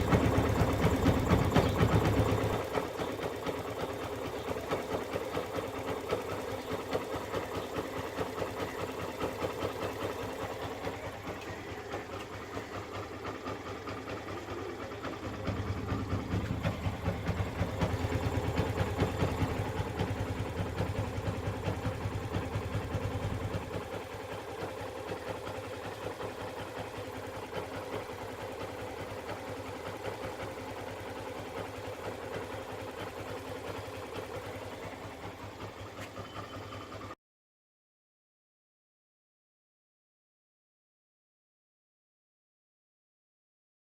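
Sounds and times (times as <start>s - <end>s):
motorcycle engine idling: 0.0s - 37.2s.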